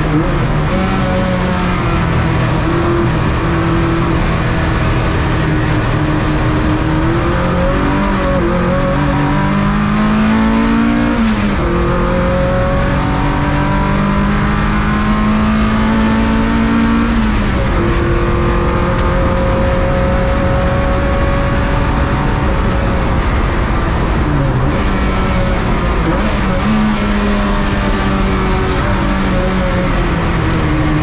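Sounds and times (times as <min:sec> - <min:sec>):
race car engine running hard: 0:00.0 - 0:31.0.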